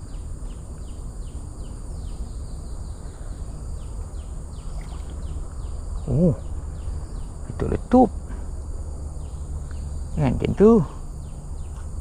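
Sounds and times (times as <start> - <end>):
bird chirping: 0.0 - 8.4, 9.0 - 12.0
high insect drone: 0.0 - 12.0.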